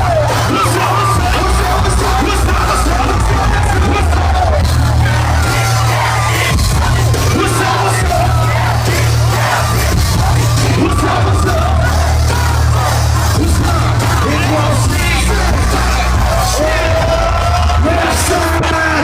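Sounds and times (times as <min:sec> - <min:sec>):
booming bass beat: 0:00.0 - 0:19.0
crowd yelling and singing along: 0:00.0 - 0:19.0
person rapping: 0:00.0 - 0:19.0.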